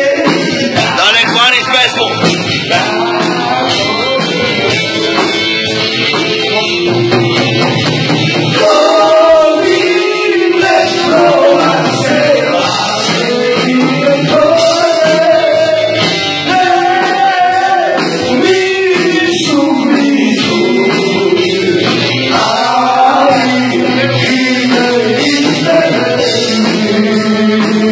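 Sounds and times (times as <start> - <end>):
man singing into a microphone: 0.0 - 4.6, 8.6 - 27.9.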